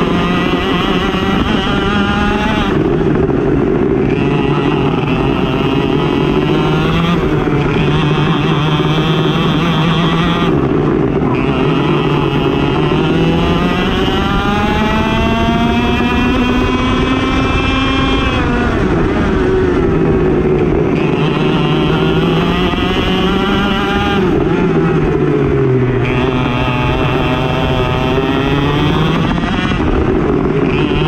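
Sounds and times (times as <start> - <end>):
racing kart engine revving: 0.0 - 31.0.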